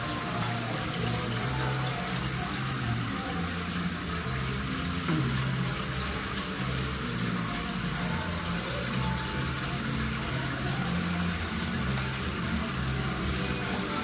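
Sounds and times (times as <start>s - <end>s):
aquarium water bubbling: 0.0s - 14.0s.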